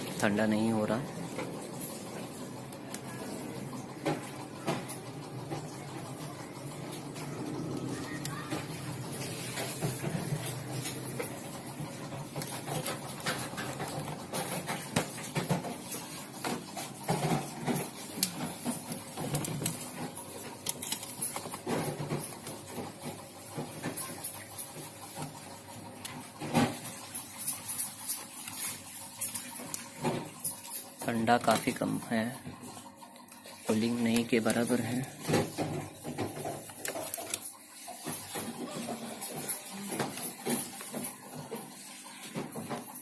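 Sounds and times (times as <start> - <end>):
things handled in a refrigerator: 2.6 - 32.6, 33.2 - 43.0.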